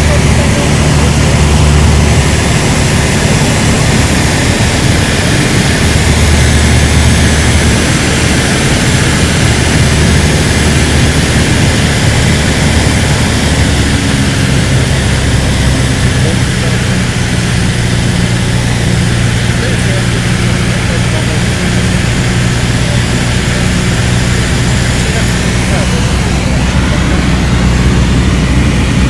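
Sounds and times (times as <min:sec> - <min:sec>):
light aircraft engine droning: 0:00.0 - 0:29.0
loud rushing airflow: 0:00.0 - 0:29.0.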